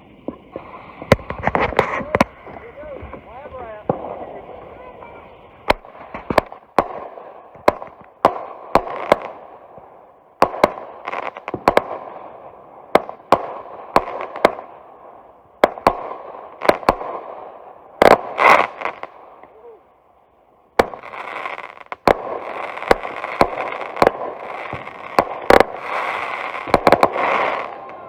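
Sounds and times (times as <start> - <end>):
firework hissing: 0.0 - 28.0
firework shells bursting: 0.2 - 19.8, 20.7 - 28.0.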